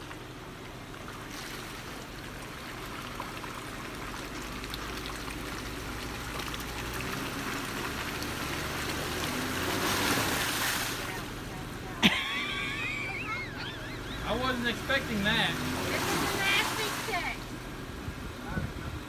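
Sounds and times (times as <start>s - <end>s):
water sloshing and splashing: 0.0s - 11.8s, 12.4s - 17.6s
car engine running low: 0.0s - 19.0s.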